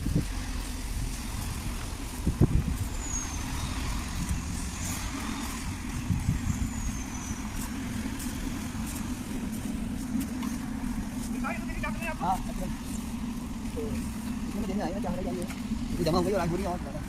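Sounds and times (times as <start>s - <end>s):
vehicle rumbling on the move: 0.0s - 17.0s.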